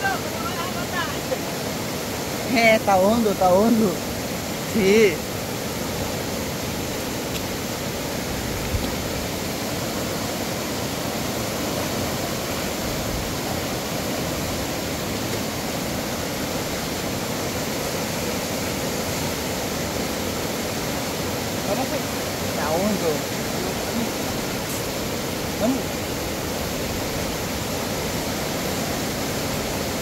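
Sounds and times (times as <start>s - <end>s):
river rushing: 0.0s - 30.0s.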